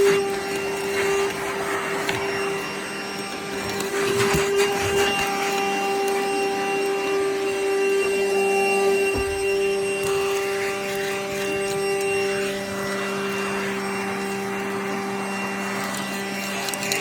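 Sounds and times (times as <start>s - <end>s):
vacuum cleaner running: 0.0s - 17.0s
vacuum nozzle scraping and knocking: 0.0s - 17.0s.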